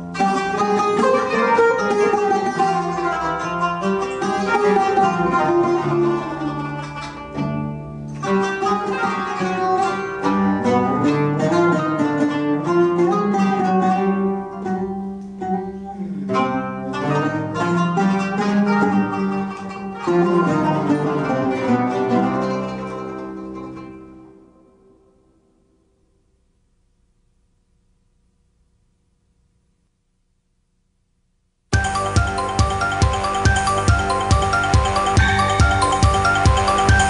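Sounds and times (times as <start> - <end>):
plucked string instrument melody: 0.0 - 25.9, 31.7 - 37.0.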